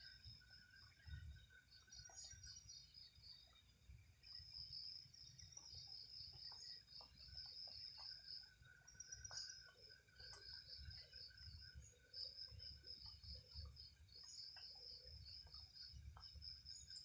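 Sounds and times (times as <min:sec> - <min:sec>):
crickets trilling: 0:00.0 - 0:17.0
low insect chirping: 0:00.0 - 0:17.0.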